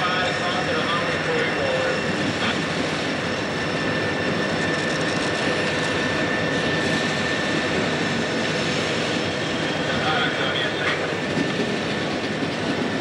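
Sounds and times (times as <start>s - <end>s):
diesel locomotive engine drone: 0.0s - 13.0s
thin steady whine: 0.0s - 13.0s.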